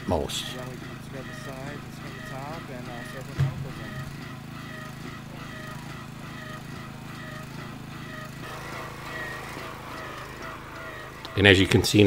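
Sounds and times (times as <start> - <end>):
pump humming: 0.6 - 12.0.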